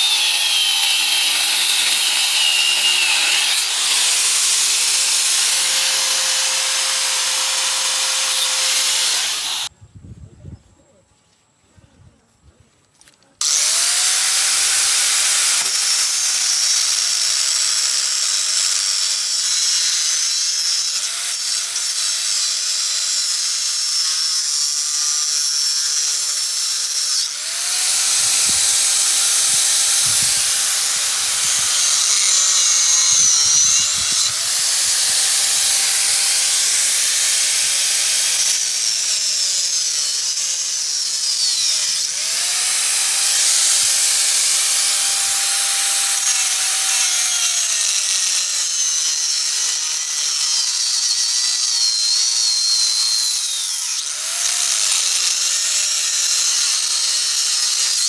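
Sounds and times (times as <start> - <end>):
electric power tool motor whine: 0.0 - 9.7, 13.4 - 58.0.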